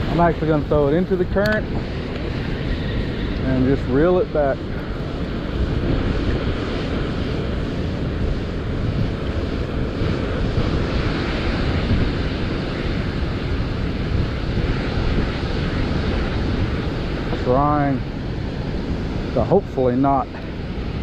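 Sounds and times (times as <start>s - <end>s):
water roaring through spillway: 0.0s - 21.0s
wind buffeting microphone: 0.0s - 21.0s.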